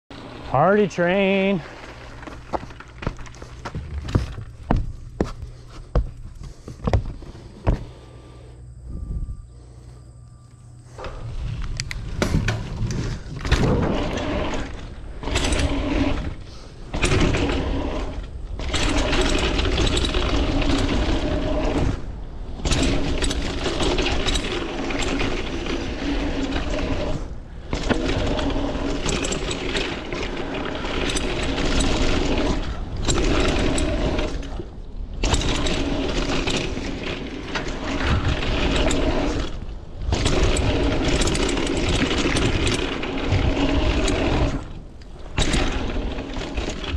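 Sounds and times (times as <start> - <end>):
tyres rolling on dirt: 0.1 - 7.9, 11.0 - 46.9
steady hum: 0.1 - 46.9
bike chain and frame rattling: 0.2 - 5.3, 11.0 - 46.9.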